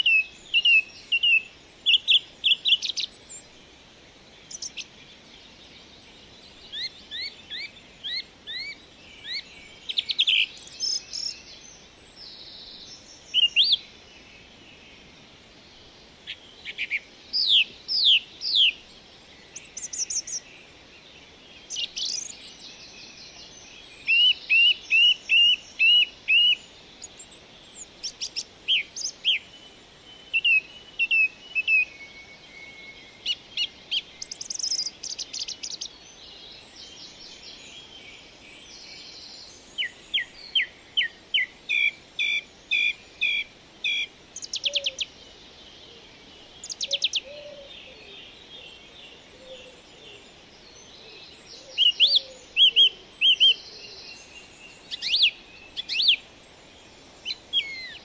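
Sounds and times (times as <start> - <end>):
birds singing high chirps: 0.0 - 58.0
steady hiss: 0.0 - 58.0
lower bird calls: 4.2 - 20.8, 21.4 - 58.0.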